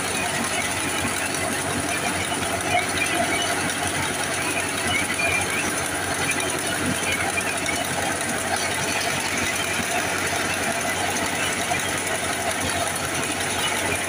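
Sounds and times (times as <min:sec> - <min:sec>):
thresher mechanical rattle: 0:00.0 - 0:14.0
tractor diesel engine: 0:00.0 - 0:14.0.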